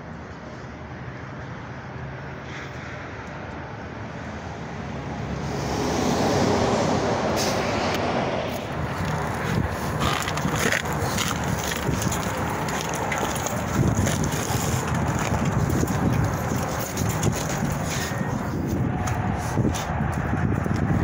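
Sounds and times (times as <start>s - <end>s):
road traffic engine hum: 0.0s - 21.0s.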